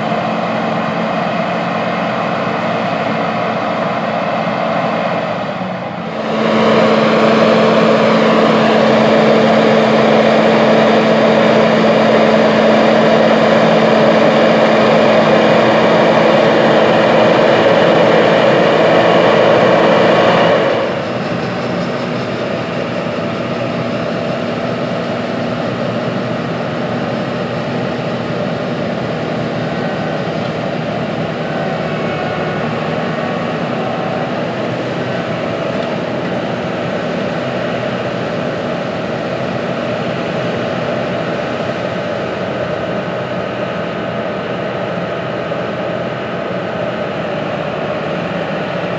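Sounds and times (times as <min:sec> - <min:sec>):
combine harvester drone: 0:00.0 - 0:48.9.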